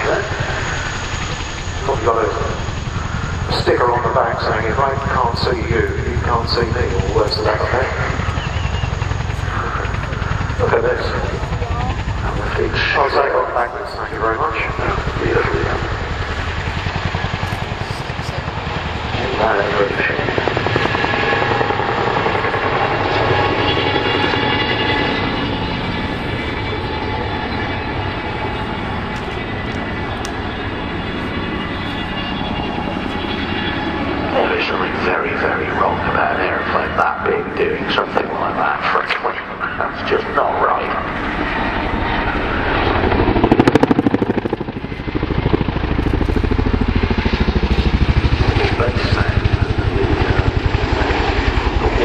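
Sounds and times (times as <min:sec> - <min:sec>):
helicopter rotor blades beating: 0:00.0 - 0:52.0
turbine engine whine: 0:00.0 - 0:52.0.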